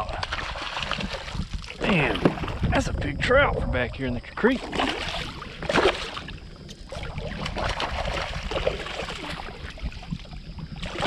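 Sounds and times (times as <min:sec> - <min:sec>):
fish splashing in water: 0:00.0 - 0:02.6, 0:04.6 - 0:11.0.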